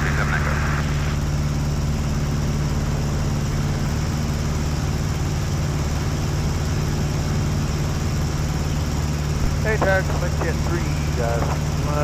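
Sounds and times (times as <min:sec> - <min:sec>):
small propeller plane engine droning: 0:00.0 - 0:12.0.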